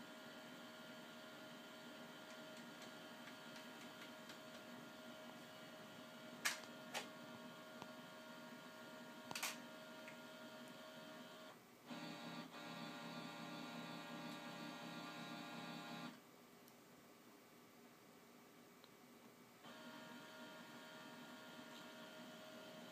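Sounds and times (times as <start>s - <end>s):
scanner motor whine: 0.1s - 16.2s, 19.6s - 22.9s.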